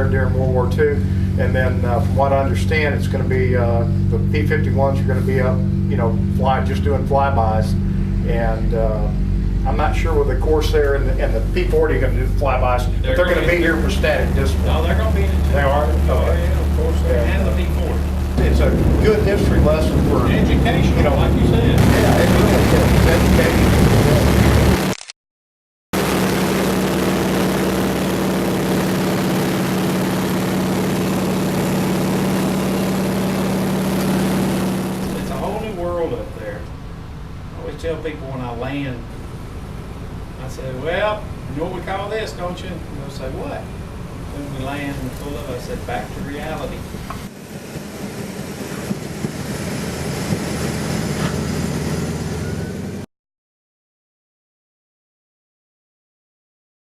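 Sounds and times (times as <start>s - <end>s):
propeller aircraft engine drone: 0.0s - 24.8s, 26.0s - 41.9s, 43.5s - 53.1s.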